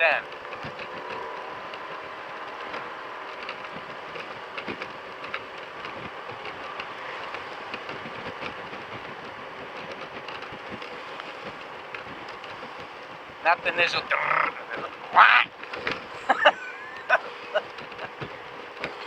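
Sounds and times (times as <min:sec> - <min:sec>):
scooter engine running: 0:00.0 - 0:19.0
small ticks and knocks: 0:00.2 - 0:13.4, 0:14.3 - 0:19.0
wind rushing over microphone: 0:00.2 - 0:19.0.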